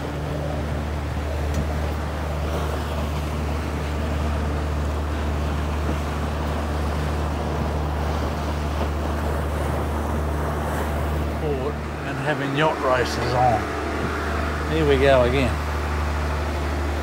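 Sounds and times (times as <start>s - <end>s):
boat engine droning: 0.0s - 17.0s
rushing water and wind: 0.0s - 17.0s.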